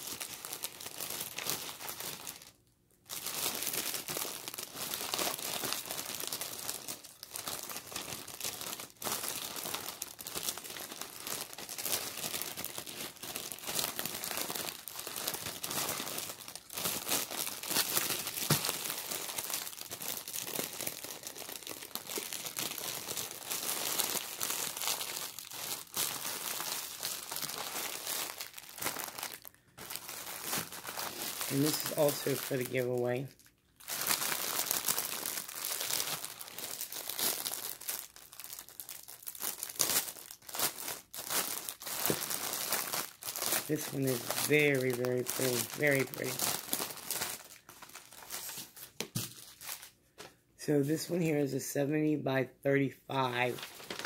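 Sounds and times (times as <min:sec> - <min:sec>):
plastic packaging crinkling: 0:00.0 - 0:51.2, 0:53.1 - 0:54.0.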